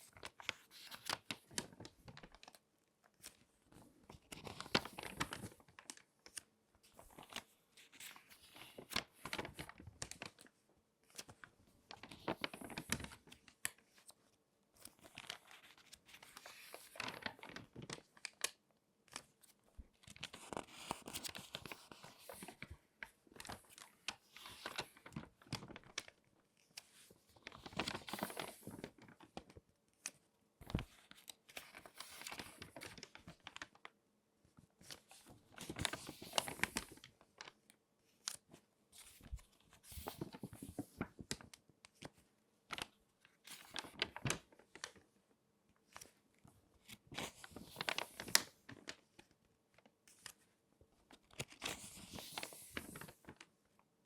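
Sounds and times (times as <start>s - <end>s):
magazine pages crinkling: 0.1s - 14.2s, 14.8s - 33.9s, 34.8s - 38.4s, 39.0s - 45.0s, 46.8s - 50.4s, 51.1s - 53.5s.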